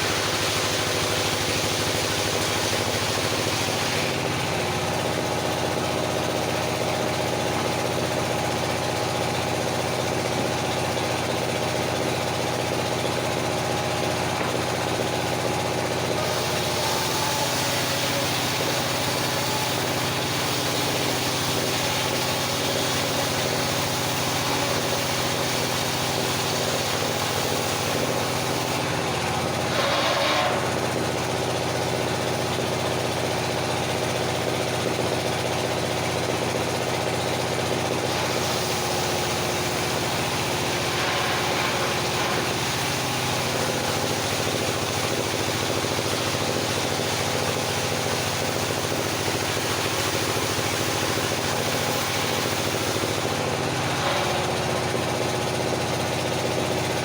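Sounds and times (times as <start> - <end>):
sawmill engine idling: 0.0 - 57.0.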